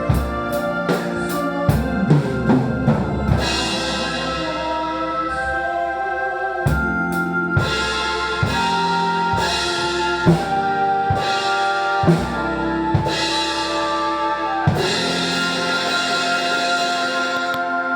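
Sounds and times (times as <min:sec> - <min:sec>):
backing track music: 0:00.0 - 0:17.9.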